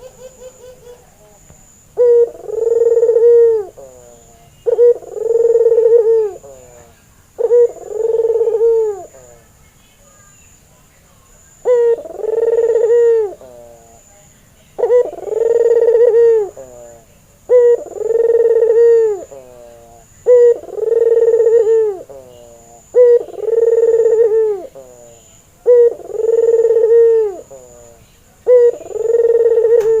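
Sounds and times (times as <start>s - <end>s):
dove cooing: 0.0s - 9.4s, 11.6s - 14.1s, 14.8s - 30.0s.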